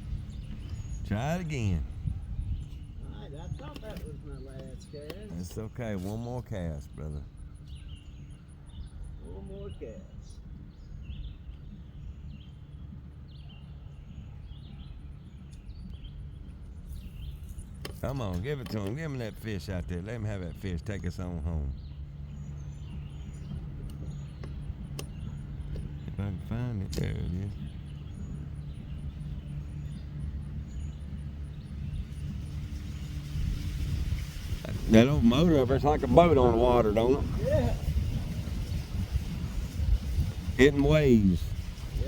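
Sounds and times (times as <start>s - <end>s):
insects ticking: 0.0s - 13.3s, 15.4s - 42.0s
bird chirping: 0.0s - 42.0s
distant motor droning: 0.0s - 42.0s
steady low rumble: 0.0s - 42.0s.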